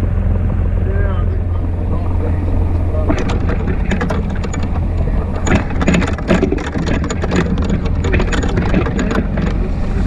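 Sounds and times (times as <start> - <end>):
sharp clicks and rattles: 0.4 - 10.0
golf cart rumbling over grass: 0.8 - 10.0.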